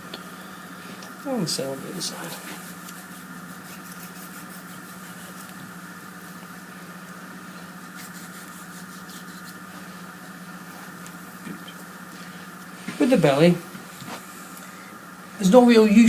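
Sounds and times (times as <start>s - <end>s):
high whine: 0.0s - 16.0s
steady machine hum: 0.0s - 16.0s.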